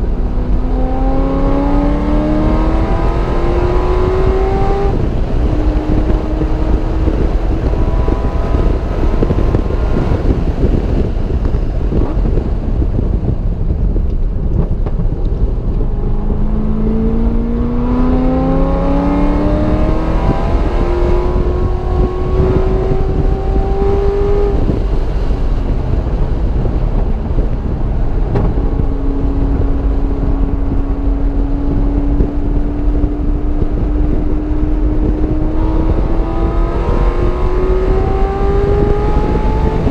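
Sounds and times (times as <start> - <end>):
race car engine revving: 0.0 - 13.1, 14.4 - 39.9
road and wind noise: 0.0 - 39.9.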